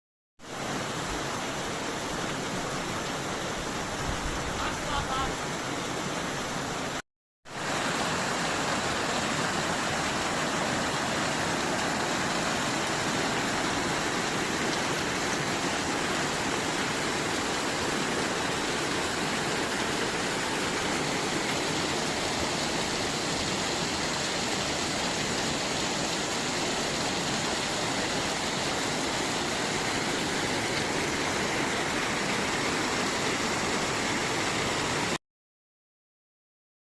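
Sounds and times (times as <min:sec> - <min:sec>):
waterfall rushing: 0:00.5 - 0:35.2.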